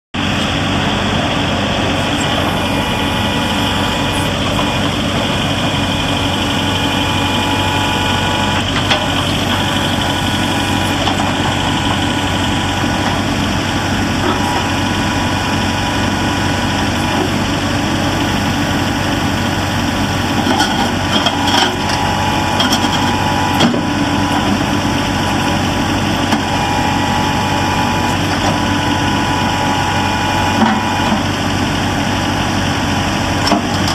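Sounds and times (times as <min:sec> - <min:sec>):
tractor diesel engine idling: 0:00.2 - 0:33.9.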